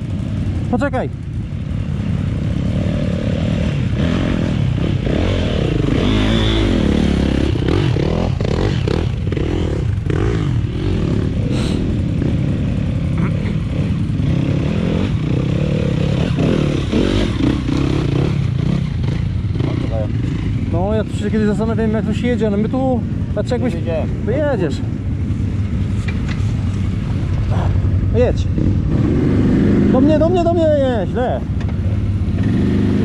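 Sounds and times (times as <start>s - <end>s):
quad engines idling: 0.0s - 28.9s
dirt bike engine revving: 0.0s - 33.0s.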